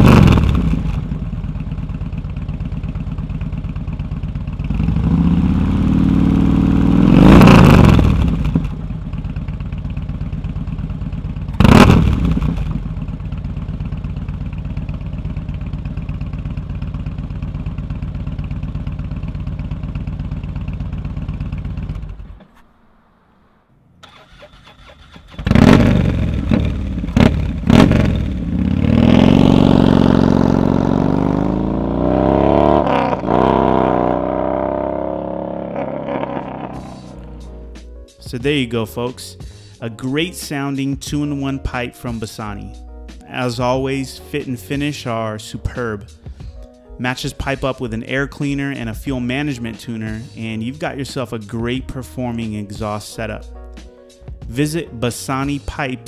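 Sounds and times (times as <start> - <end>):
motorcycle engine idling and revving: 0.0 - 39.7, 47.2 - 53.5.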